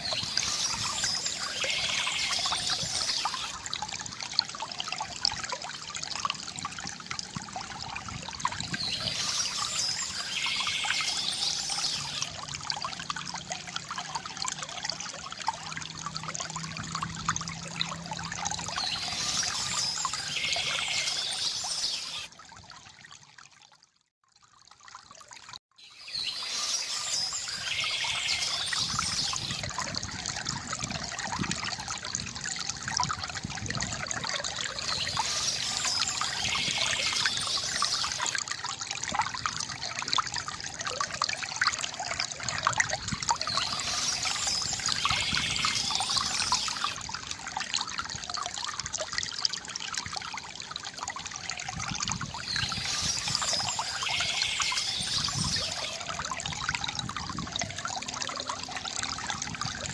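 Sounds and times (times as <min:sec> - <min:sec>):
fountain water trickling and splashing: 0:00.0 - 0:59.9.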